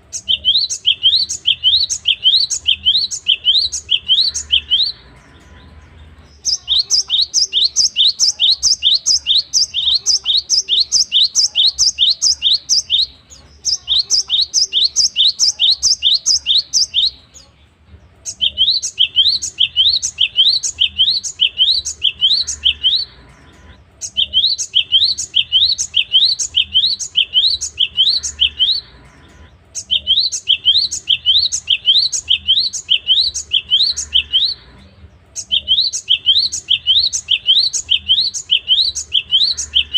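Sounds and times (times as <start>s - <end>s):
bird singing whistled notes: 0.0s - 17.5s, 18.2s - 34.8s, 35.4s - 39.9s.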